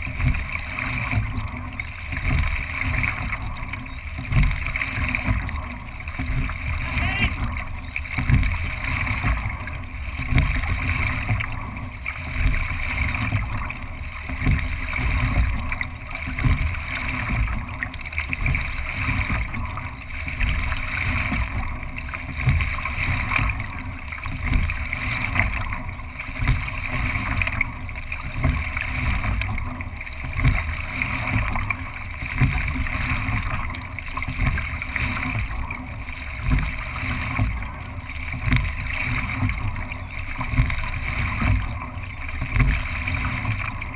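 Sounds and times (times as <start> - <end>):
oars working the water: 0.0 - 43.9
water rushing past a boat hull: 0.0 - 43.9.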